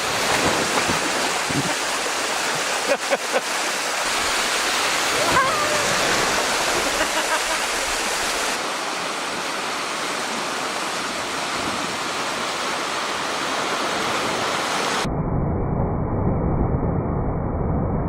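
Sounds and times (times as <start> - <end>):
waterfall rushing: 0.0 - 15.1.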